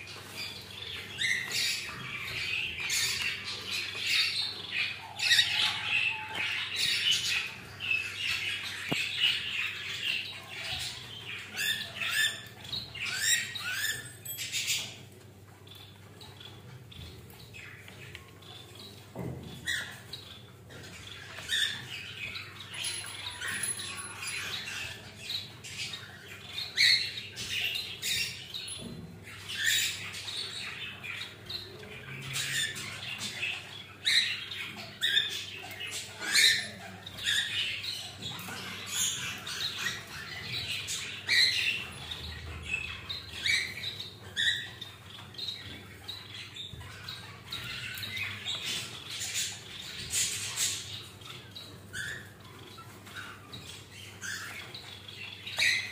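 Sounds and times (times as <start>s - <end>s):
bird chirps and calls: 0.0s - 55.9s.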